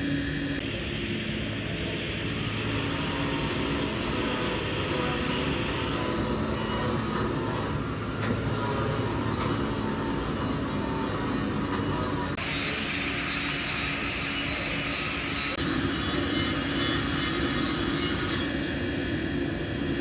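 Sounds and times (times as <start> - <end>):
machinery hum and hiss: 0.0 - 20.0.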